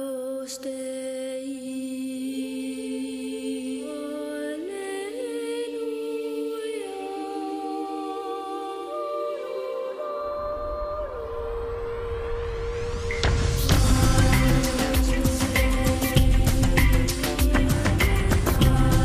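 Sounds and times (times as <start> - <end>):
close-harmony vocals: 0.0 - 19.0.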